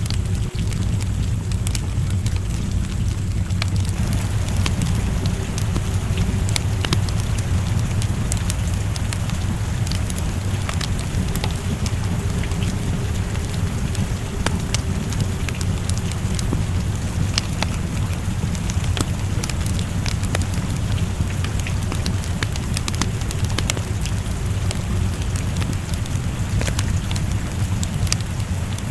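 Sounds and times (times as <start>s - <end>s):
low rumble: 0.0s - 28.9s
steady rain: 0.0s - 28.9s
wood fire crackling and popping: 0.0s - 28.9s.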